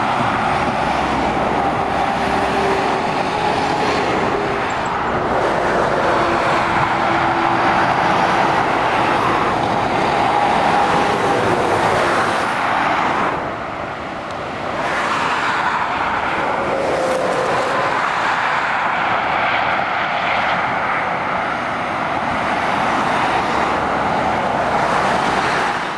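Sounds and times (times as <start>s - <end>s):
road traffic rushing: 0.0s - 25.9s.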